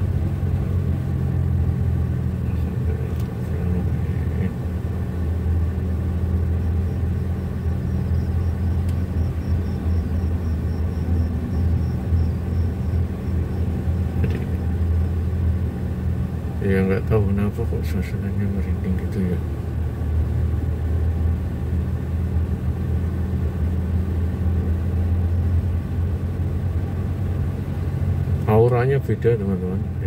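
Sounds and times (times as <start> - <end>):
vehicle engine and road drone: 0.0 - 30.0.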